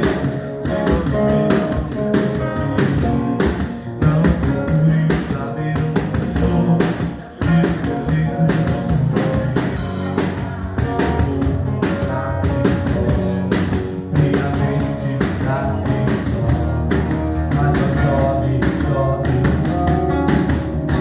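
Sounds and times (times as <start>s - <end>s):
live band playing dance music: 0.0s - 21.0s.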